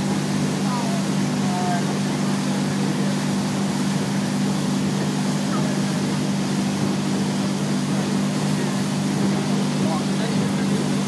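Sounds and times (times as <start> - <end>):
motorboat engine running: 0.0 - 11.0.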